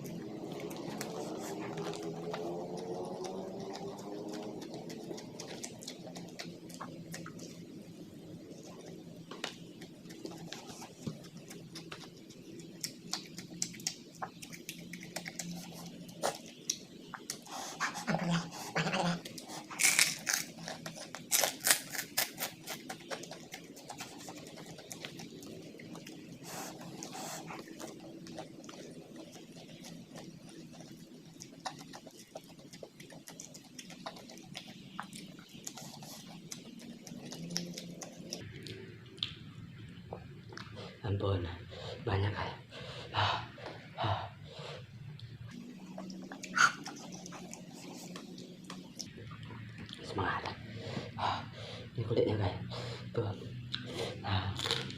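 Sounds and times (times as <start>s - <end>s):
person chewing with mouth open: 0.0s - 7.6s, 8.5s - 39.4s, 42.8s - 51.6s, 53.7s - 54.9s
low steady hum: 0.0s - 54.9s.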